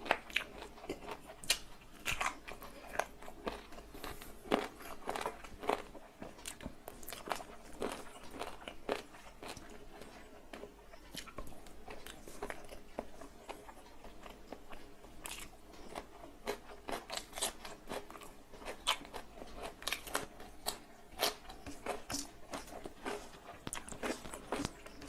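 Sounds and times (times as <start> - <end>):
person chewing and smacking: 0.0 - 25.0.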